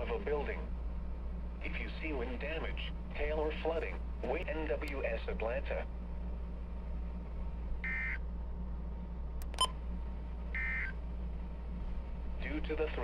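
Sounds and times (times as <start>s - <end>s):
low radio hum: 0.0s - 13.0s.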